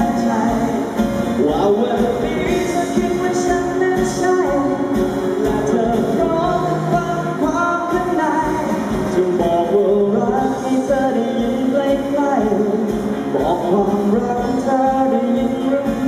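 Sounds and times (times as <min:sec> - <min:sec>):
man singing pop song: 0:00.0 - 0:16.0
musical accompaniment with beat: 0:00.0 - 0:16.0.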